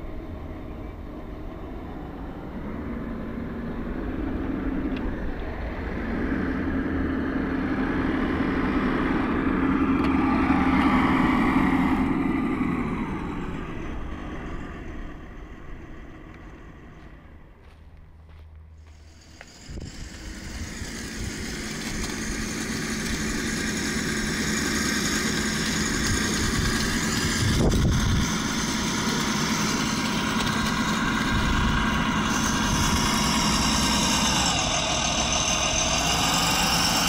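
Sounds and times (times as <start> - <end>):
toy tractor whine passing: 0.0 - 17.6, 18.8 - 37.0.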